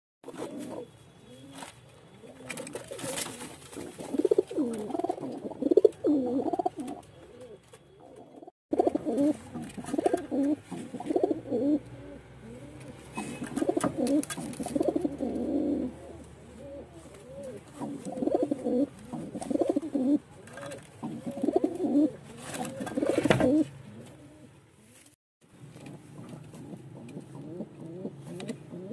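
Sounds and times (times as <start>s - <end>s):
pigeons cooing: 0.3s - 24.6s, 26.2s - 28.9s.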